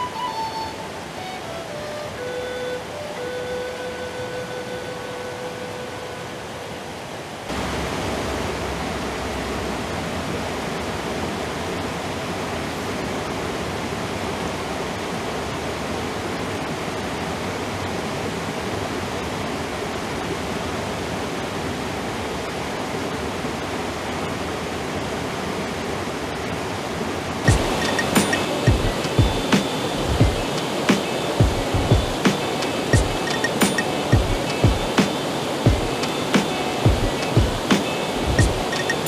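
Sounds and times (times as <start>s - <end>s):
creek water rushing over rocks: 0.0s - 39.0s.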